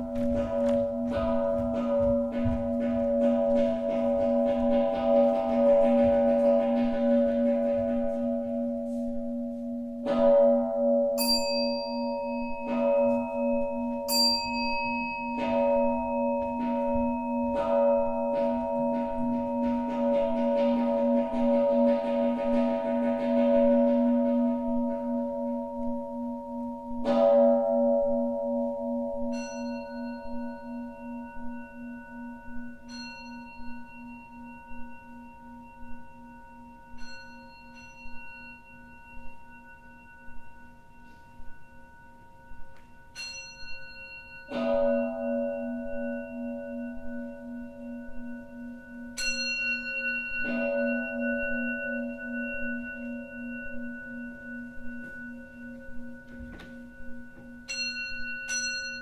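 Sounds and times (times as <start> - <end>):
large low bowl bell ringing: 0.0 - 59.0
small high bowl bell ringing: 0.0 - 59.0.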